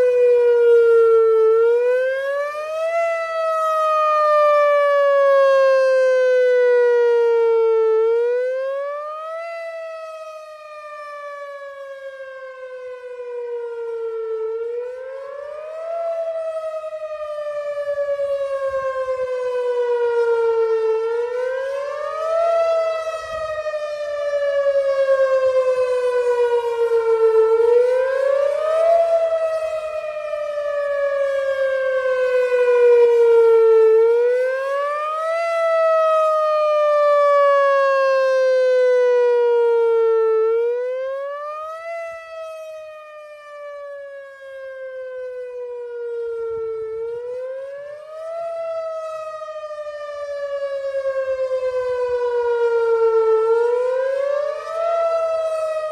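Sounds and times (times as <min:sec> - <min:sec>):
warning siren rising and falling: 0:00.0 - 0:55.9.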